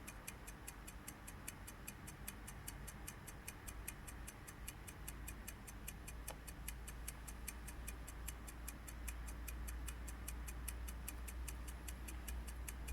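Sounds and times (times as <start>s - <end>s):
rapid mechanical ticking: 0.0s - 12.9s.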